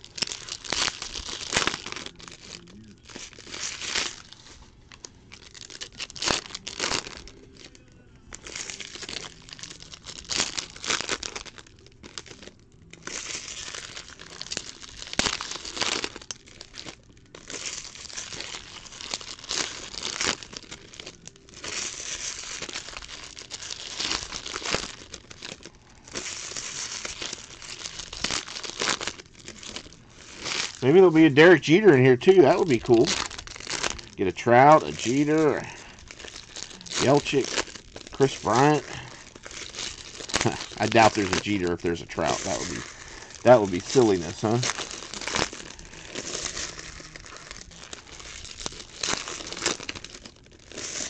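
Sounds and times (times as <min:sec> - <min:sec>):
foil wrappers tearing and crinkling: 0:00.0 - 0:51.0.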